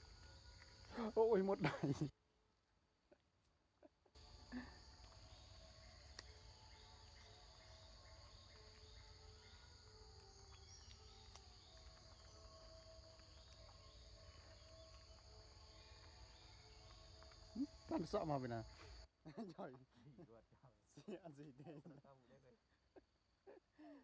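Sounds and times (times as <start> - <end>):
faint insect chorus: 0.0 - 3.2, 4.1 - 24.0.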